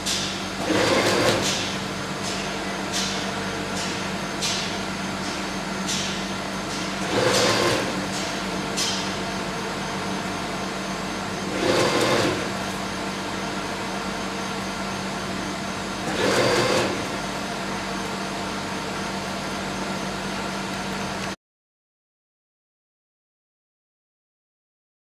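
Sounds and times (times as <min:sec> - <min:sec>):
conveyor machine hum: 0:00.0 - 0:21.4.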